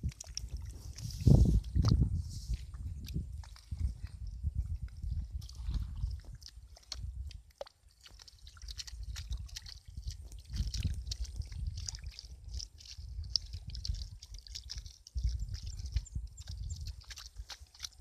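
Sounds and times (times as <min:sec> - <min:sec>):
hands squelching in wet mud: 0:00.0 - 0:18.0.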